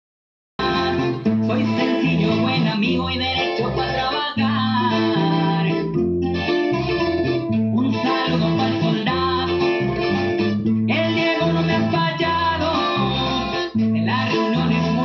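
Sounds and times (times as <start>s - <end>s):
heavy bass line: 0.6s - 15.0s
plucked guitar music: 0.6s - 15.0s.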